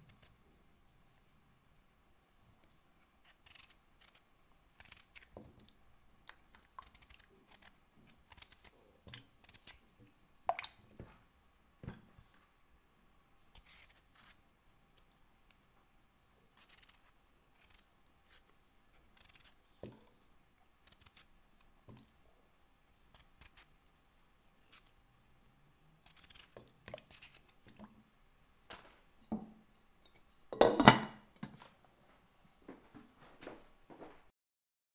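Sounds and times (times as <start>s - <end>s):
knife peeling and cutting potato: 0.0s - 1.4s, 2.8s - 12.3s, 13.2s - 31.8s.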